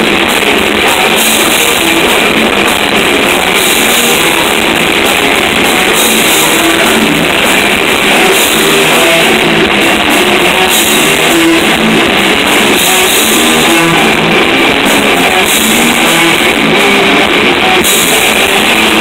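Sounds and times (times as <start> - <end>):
cymbals: 0.0 - 19.0
distorted electric guitars: 0.0 - 19.0
drum kit: 0.0 - 19.0.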